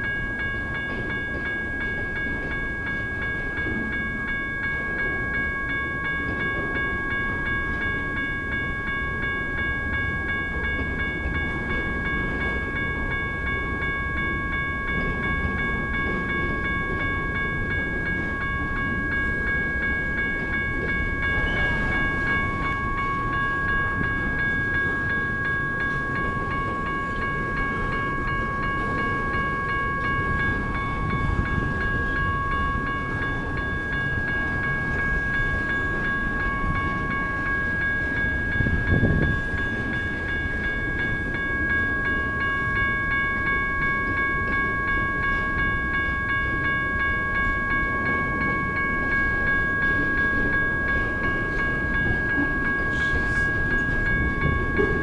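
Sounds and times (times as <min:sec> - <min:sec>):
electronic crossing bell ringing: 0:00.0 - 0:55.0
freight train cars rumbling: 0:00.0 - 0:55.0.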